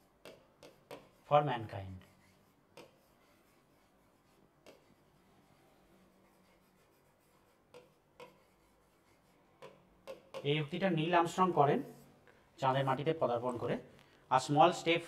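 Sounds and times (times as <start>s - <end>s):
marker pen writing on board: 0.0s - 12.1s.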